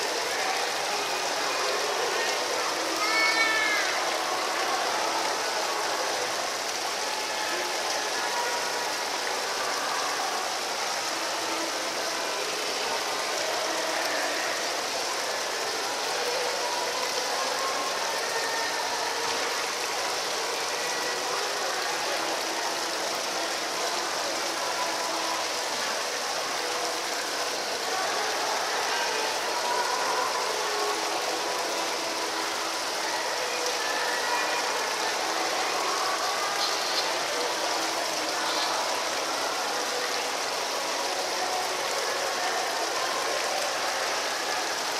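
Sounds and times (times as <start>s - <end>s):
fountain water splashing over stones: 0.0s - 44.9s.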